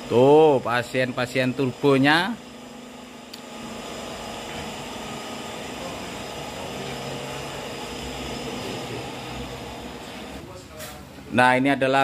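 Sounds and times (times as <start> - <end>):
machine hum and hiss: 0.0 - 11.2.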